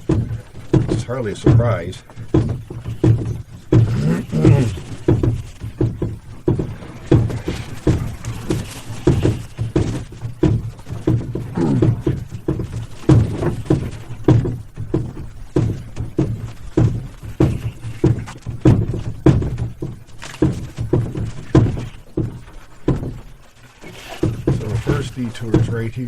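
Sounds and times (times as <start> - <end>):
footsteps dull thuds: 0.0 - 26.0.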